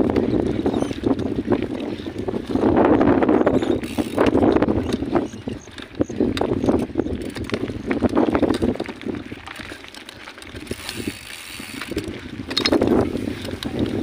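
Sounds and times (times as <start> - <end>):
bicycle rattling over gravel: 0.0 - 14.0.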